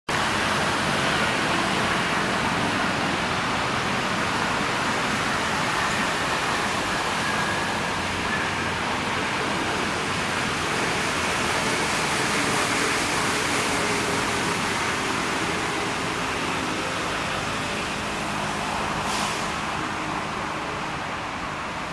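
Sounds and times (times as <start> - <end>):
steady rushing noise: 0.1 - 21.9.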